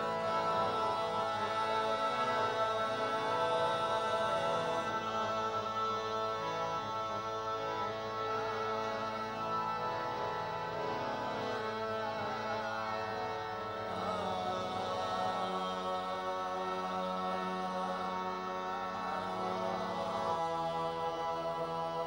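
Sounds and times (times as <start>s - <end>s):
harmonium drone: 0.0s - 22.0s.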